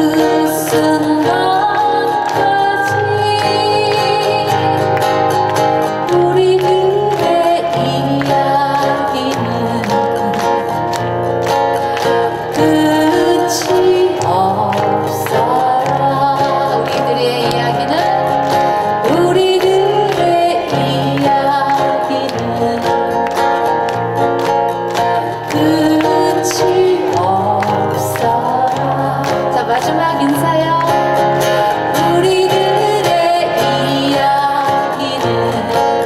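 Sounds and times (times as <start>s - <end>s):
woman singing: 0.0s - 11.0s, 11.8s - 23.9s, 25.0s - 36.0s
backing band with guitar and bass: 0.0s - 36.0s.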